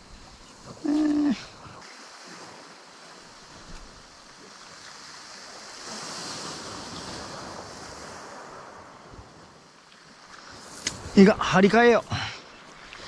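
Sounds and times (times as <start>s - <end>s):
waves washing onto shore: 0.0s - 13.0s
wind: 0.0s - 13.0s.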